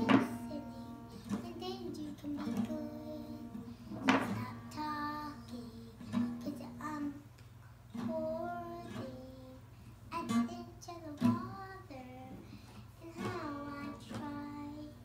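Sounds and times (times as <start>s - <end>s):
acoustic guitar strumming: 0.0s - 7.3s, 7.9s - 15.0s
girl singing: 0.0s - 15.0s.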